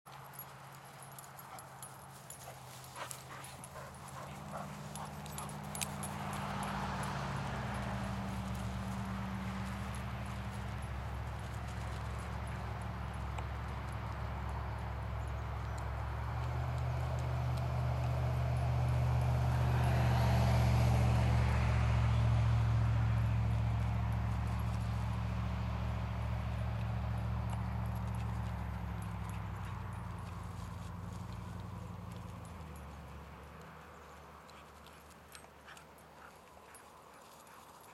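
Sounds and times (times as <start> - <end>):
vehicle driving past: 0.4 - 36.8.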